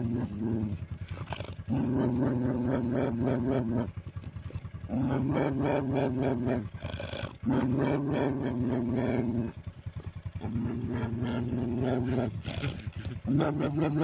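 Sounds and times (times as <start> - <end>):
dog growling: 0.0 - 14.0.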